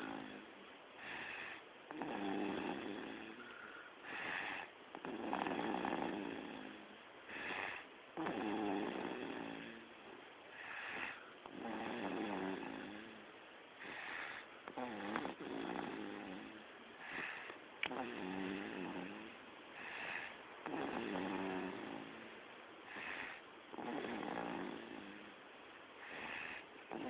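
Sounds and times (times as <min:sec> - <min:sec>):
baby snoring: 0:00.0 - 0:09.9, 0:10.6 - 0:13.2, 0:13.8 - 0:22.3, 0:22.9 - 0:25.3, 0:26.0 - 0:27.0.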